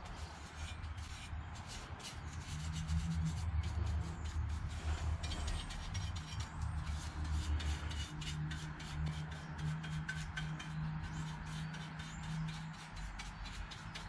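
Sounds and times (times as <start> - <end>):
paintbrush scratching on metal: 0.0 - 14.0.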